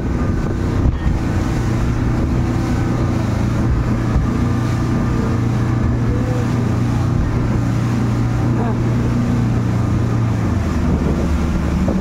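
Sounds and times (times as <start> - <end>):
outboard motor running: 0.0 - 12.0
rushing boat wake: 0.0 - 12.0.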